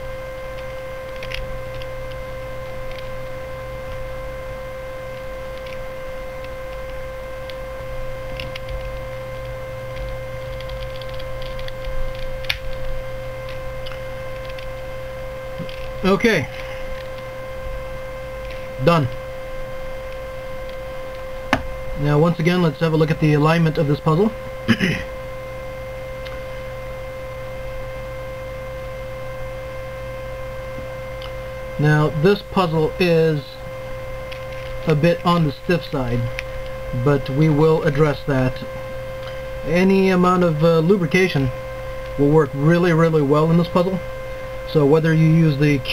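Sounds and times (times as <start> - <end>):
high whine: 0.0 - 45.9
steady electrical hum: 0.0 - 45.9.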